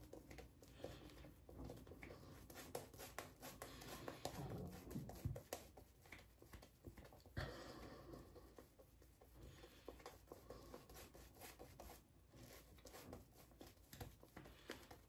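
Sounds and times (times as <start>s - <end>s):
shaving brush swishing on lather: 0.0s - 7.4s, 8.5s - 15.0s.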